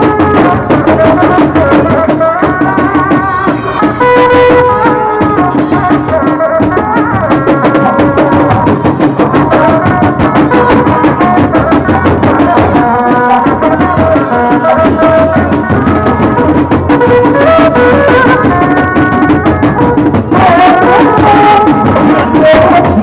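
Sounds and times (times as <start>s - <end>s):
fast dense drumming: 0.0s - 23.0s.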